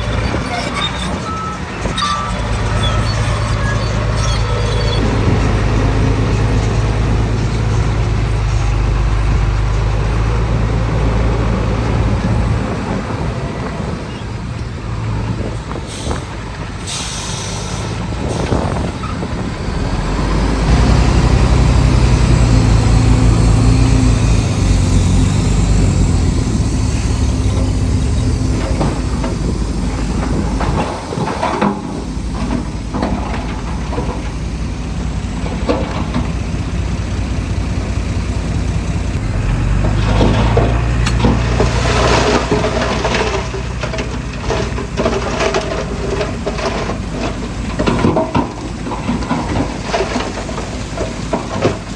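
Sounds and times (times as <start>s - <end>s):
heavy diesel engines working: 0.0s - 51.9s.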